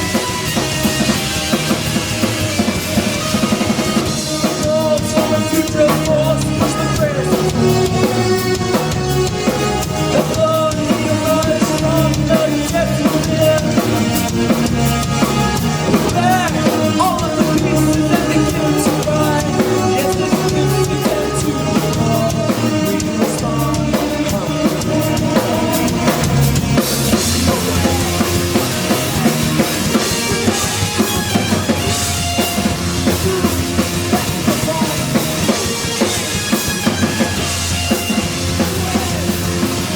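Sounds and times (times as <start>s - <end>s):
driving drum kit: 0.0s - 39.9s
live band playing loud music: 0.0s - 39.9s.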